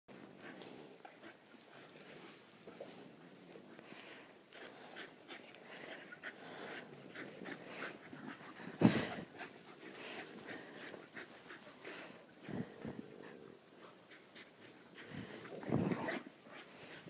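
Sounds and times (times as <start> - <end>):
dogs panting: 0.1 - 17.0.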